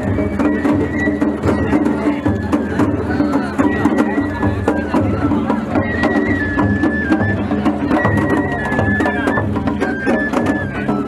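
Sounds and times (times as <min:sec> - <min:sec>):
bamboo flute playing: 0:00.0 - 0:11.0
rapid drum and percussion strikes: 0:00.0 - 0:11.0.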